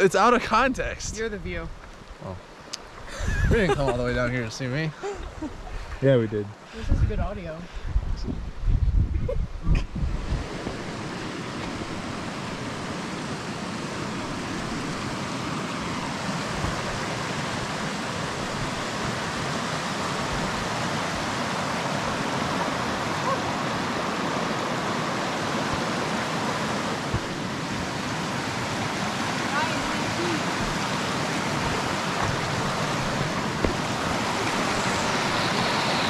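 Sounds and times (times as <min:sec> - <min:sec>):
stream water rushing: 0:00.0 - 0:07.7, 0:10.0 - 0:36.0.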